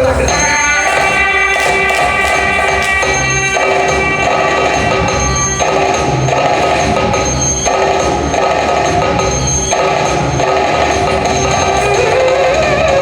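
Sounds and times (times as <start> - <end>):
loud dance music: 0.0 - 12.6.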